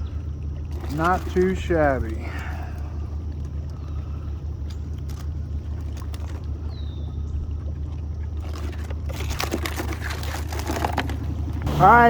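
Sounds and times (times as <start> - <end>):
boat motor running: 0.0 - 12.0
water splashing and trickling: 0.0 - 12.0.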